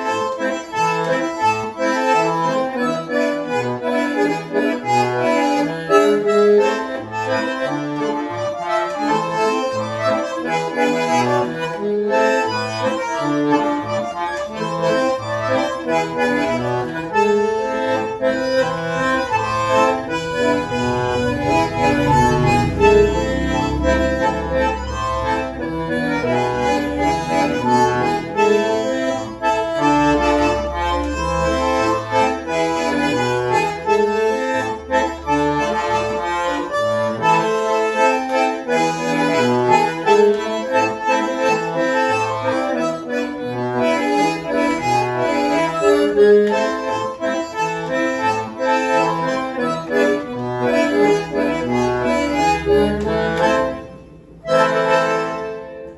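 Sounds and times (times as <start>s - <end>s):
backing track with bass: 0.0s - 55.9s
bandoneon playing chords: 0.0s - 55.9s.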